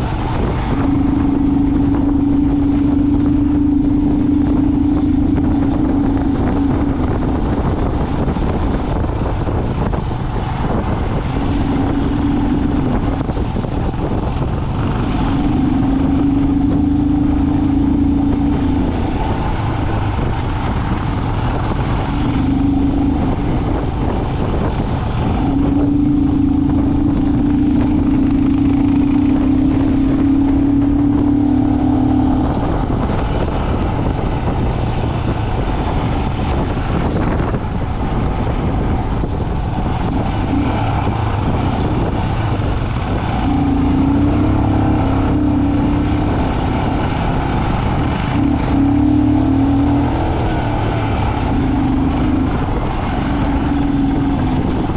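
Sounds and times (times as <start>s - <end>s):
humming engine note: 0.0s - 54.9s
road noise: 0.0s - 54.9s
vehicle engine rumble: 0.0s - 54.9s.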